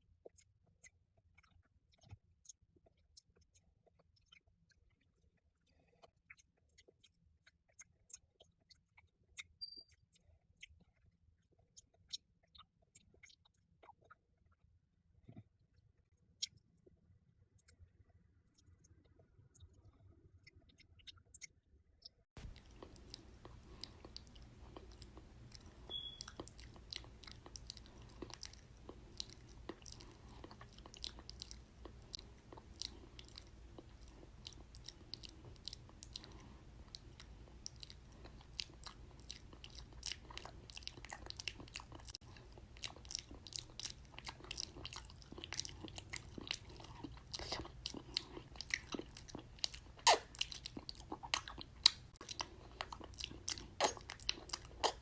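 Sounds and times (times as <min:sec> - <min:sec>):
mouth clicks and smacks: 0:00.2 - 0:14.2, 0:20.4 - 0:55.0.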